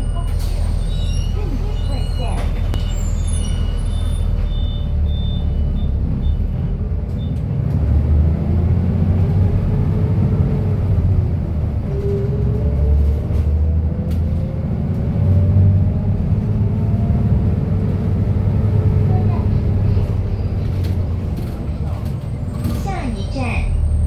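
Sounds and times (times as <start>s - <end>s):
bus diesel engine revving: 0.0s - 24.0s.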